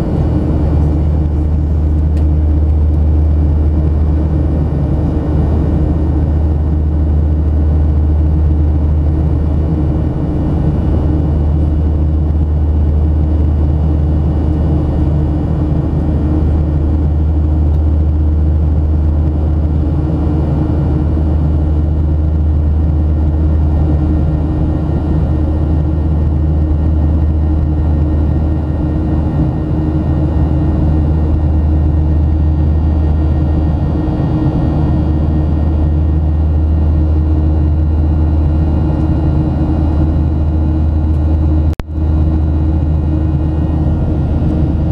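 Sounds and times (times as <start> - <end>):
faint engine tones: 0.0 - 44.9
jet cabin engine roar: 0.0 - 44.9.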